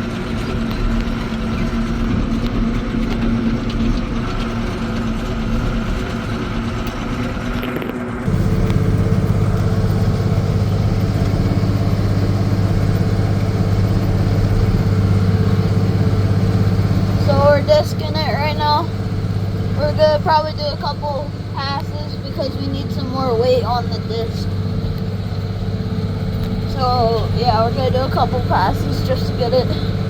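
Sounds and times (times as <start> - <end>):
tractor diesel engine droning: 0.0 - 30.0.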